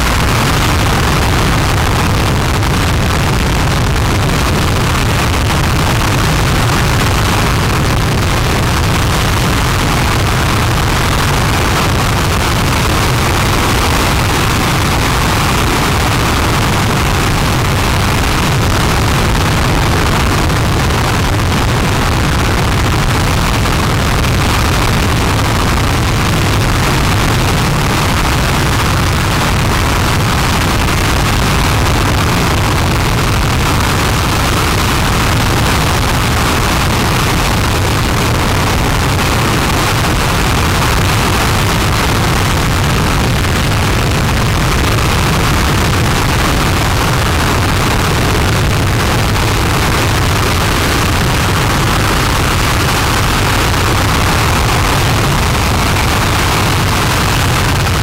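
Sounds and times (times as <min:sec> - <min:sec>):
rocket engine roaring: 0:00.0 - 0:58.0.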